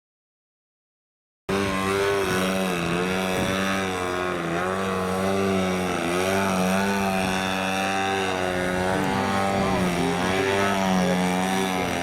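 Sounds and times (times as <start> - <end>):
model airplane engine running: 1.5 - 12.0.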